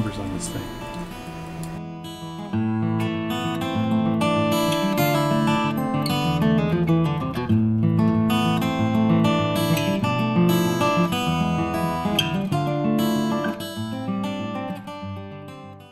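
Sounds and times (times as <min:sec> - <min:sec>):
strummed acoustic guitar music: 0:00.0 - 0:15.9.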